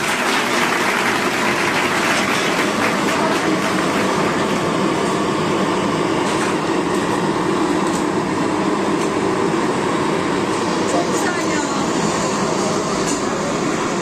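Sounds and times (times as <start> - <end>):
restaurant kitchen din: 0.0 - 14.0.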